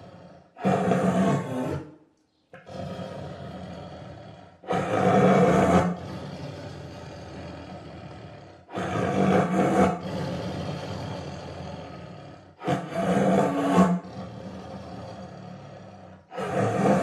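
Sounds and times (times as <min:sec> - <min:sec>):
tiger roaring: 0:00.0 - 0:01.9, 0:02.6 - 0:17.0.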